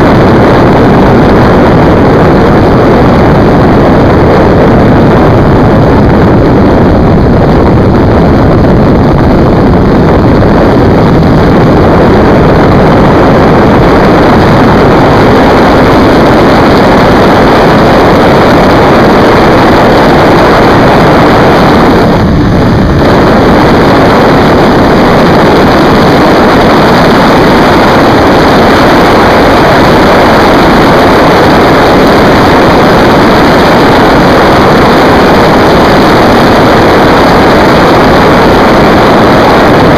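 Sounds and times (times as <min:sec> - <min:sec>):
wind roar over microphone: 0:00.0 - 0:39.9
motorcycle engine running: 0:02.2 - 0:38.4.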